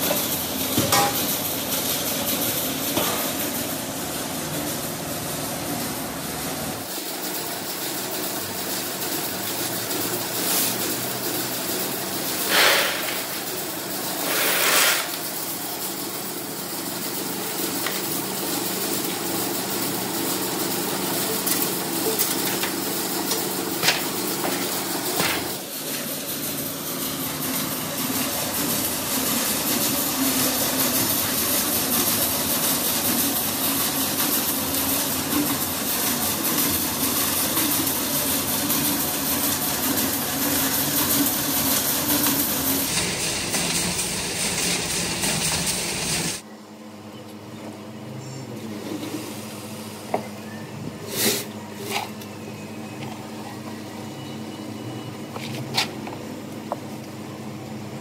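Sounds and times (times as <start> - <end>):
workshop machinery humming: 0.0 - 58.0.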